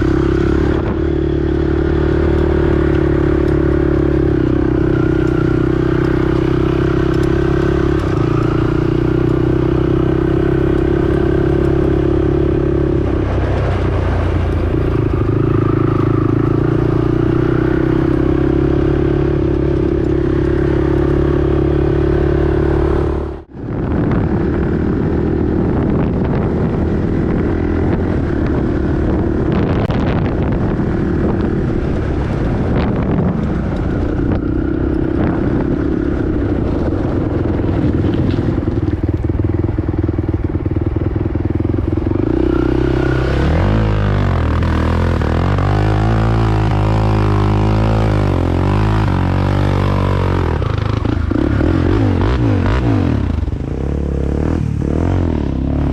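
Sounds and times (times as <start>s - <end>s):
quad bike engine revving: 0.0s - 55.9s.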